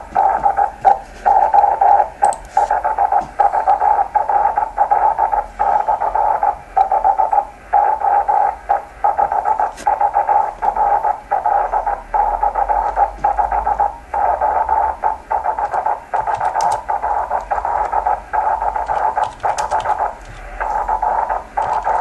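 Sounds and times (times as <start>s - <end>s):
raspy radio hiss: 0.0s - 22.0s.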